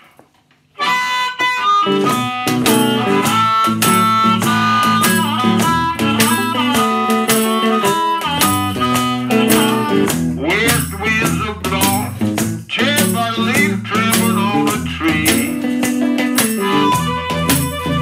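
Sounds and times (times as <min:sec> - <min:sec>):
electric guitar: 0:00.0 - 0:18.0
harmonica: 0:00.8 - 0:12.2, 0:12.8 - 0:18.0.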